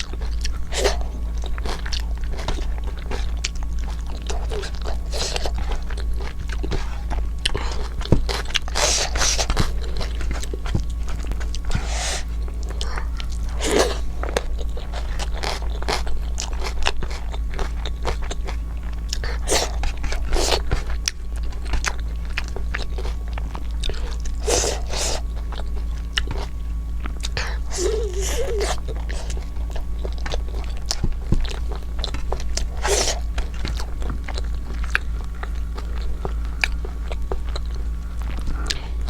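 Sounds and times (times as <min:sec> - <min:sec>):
person chewing food: 0:00.0 - 0:39.0
steady low hum: 0:00.0 - 0:39.0.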